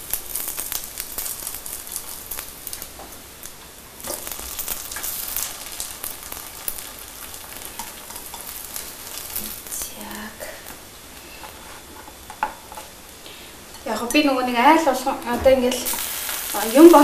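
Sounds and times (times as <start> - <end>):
garlic sizzling in butter: 0.0 - 17.0.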